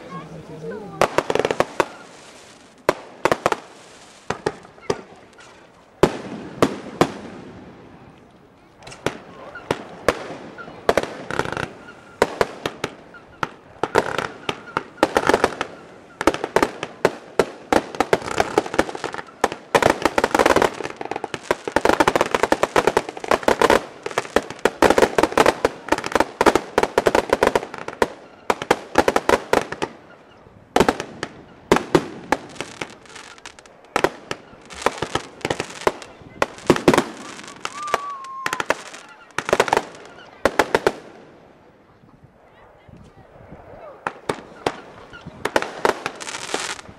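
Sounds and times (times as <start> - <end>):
fireworks bangs and crackle: 0.2 - 8.2, 8.8 - 41.7, 43.0 - 46.9.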